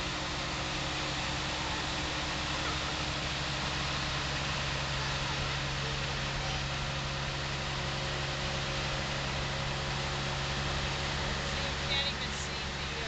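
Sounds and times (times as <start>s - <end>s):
diesel locomotive idling: 0.0s - 13.0s.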